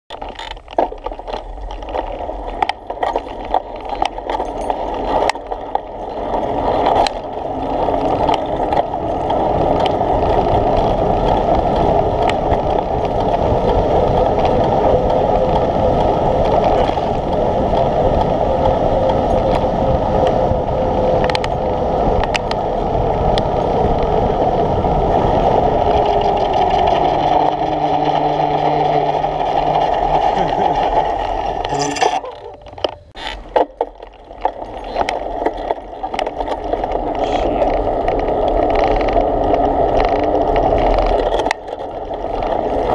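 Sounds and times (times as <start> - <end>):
bicycle tyre and road noise: 0.1 - 42.9
wind rushing over microphone: 0.1 - 42.9.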